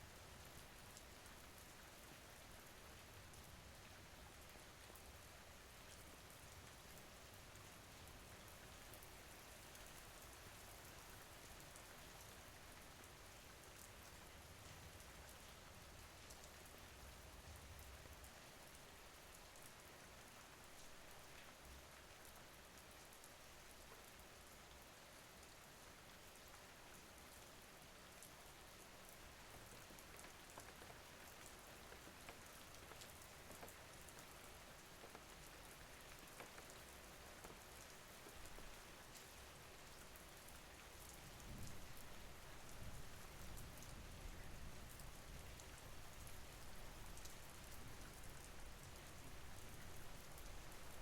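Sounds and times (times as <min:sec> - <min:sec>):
faint rain with drops ticking: 0:00.0 - 0:51.0.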